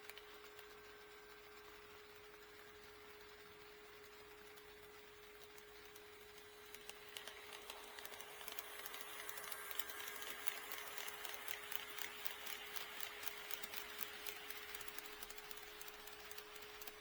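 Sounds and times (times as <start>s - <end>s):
model train wheels clicking: 0.0s - 17.0s.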